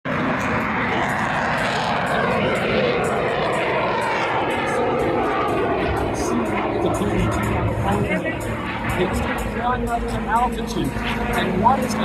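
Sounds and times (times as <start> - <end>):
airplane engine roar: 0.1 - 12.0.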